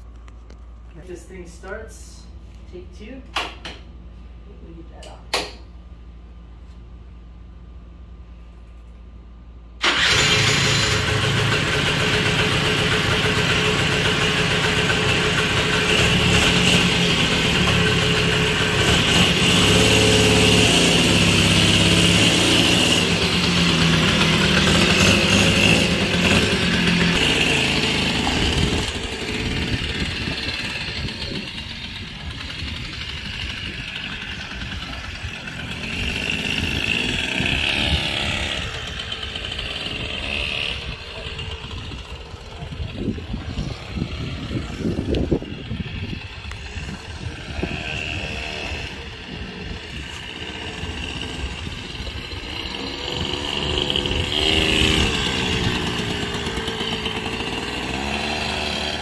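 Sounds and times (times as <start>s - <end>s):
small two-stroke engine running: 9.8s - 59.0s.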